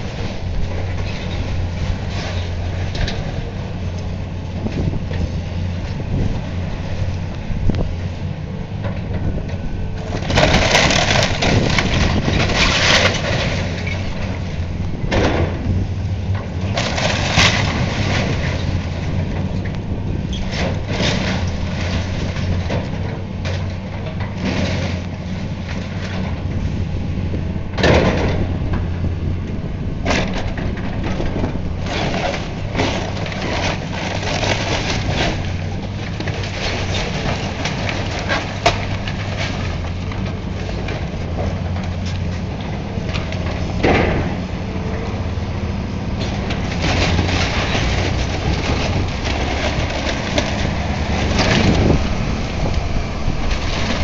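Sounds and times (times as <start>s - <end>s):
debris crunching and crashing: 0.0s - 54.0s
demolition machine engine running: 0.0s - 54.0s.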